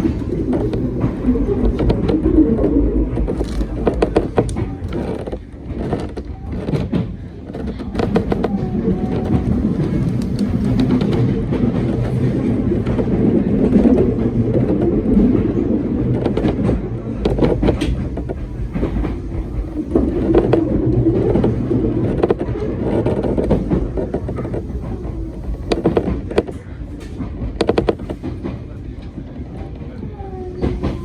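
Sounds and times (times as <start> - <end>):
train rumbling on track: 0.0 - 31.0
wheels clicking on rails: 0.0 - 31.0.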